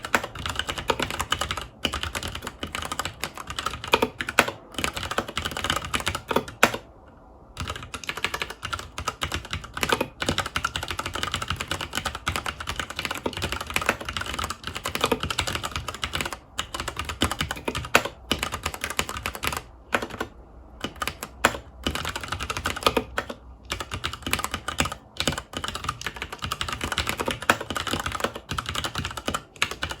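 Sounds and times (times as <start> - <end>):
fast typing on mechanical keyboard: 0.0 - 6.9, 7.6 - 30.0.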